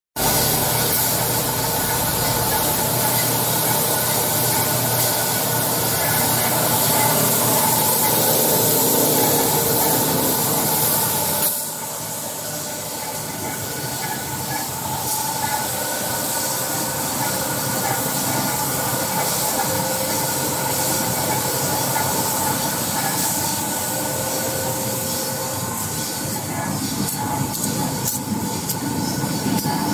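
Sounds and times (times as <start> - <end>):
belt sander grinding steel: 0.2 - 29.9
machine hum: 0.2 - 29.9.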